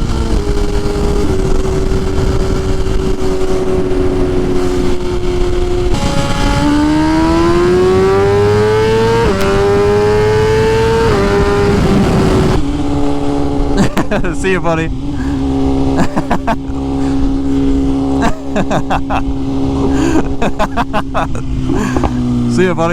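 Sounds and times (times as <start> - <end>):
motorcycle engine accelerating: 0.0 - 22.9.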